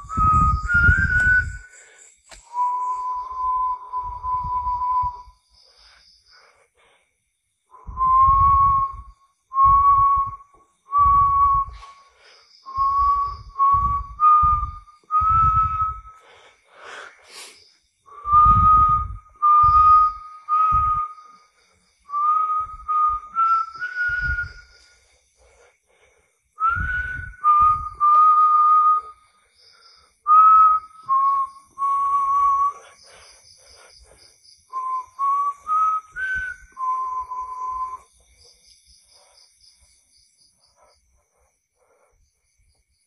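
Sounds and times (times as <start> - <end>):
person whistling held notes: 0.0 - 6.6, 7.7 - 25.7, 26.6 - 33.9, 34.7 - 38.2
breath noise: 0.2 - 2.8, 5.2 - 38.0.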